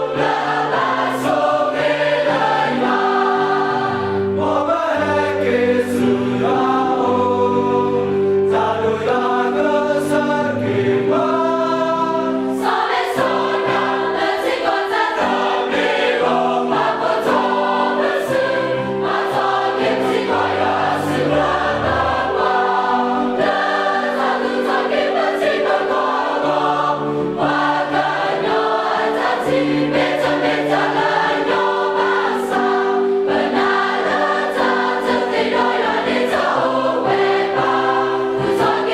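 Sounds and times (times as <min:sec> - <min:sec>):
choir singing gospel: 0:00.0 - 0:38.9.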